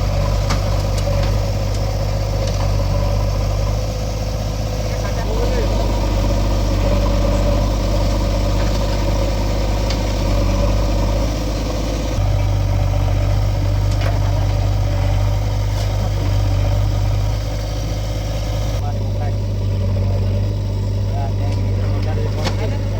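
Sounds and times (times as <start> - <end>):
diesel engine humming: 0.0 - 22.9.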